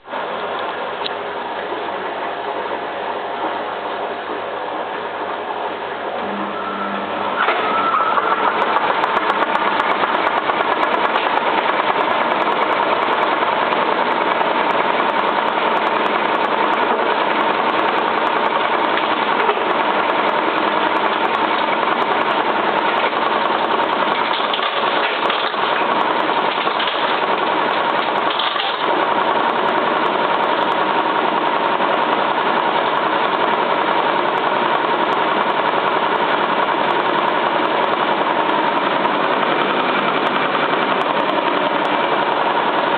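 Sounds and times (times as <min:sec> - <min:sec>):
washing machine spinning: 0:00.1 - 0:42.9.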